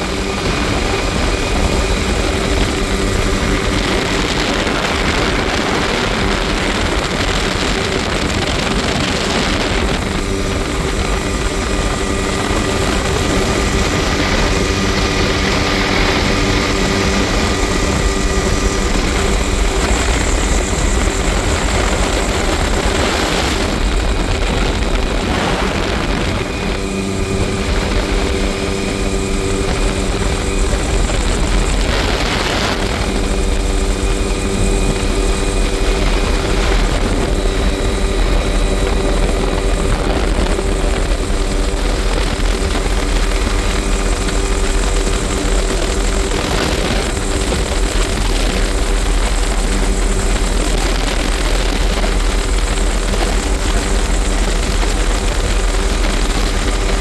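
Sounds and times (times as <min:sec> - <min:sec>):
helicopter rotor and turbine noise: 0:00.0 - 0:57.0
wind rushing through cabin: 0:00.0 - 0:57.0.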